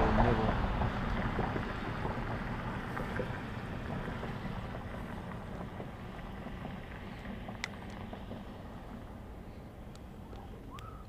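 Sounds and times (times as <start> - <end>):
low rumble of wind and water: 0.0 - 11.0.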